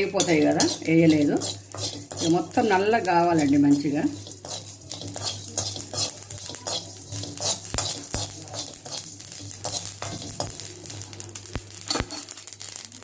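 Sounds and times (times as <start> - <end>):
metal spatula scraping a pan: 0.0 - 11.1
spice seeds rattling and sizzling: 0.0 - 13.0.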